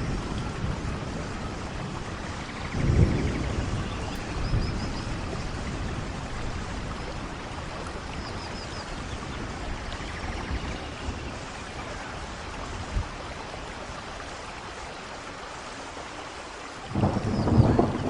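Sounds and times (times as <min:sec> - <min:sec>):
low rumble of thunder: 0:00.0 - 0:14.7, 0:16.8 - 0:18.0
steady rainfall: 0:00.0 - 0:18.0.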